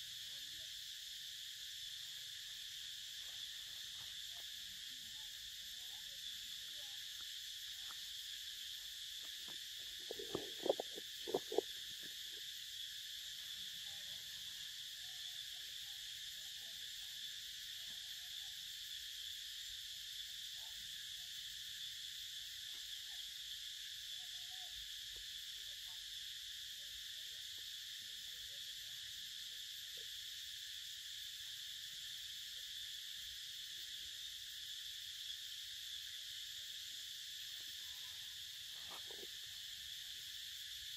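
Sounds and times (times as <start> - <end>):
forest insects droning: 0.0 - 40.9.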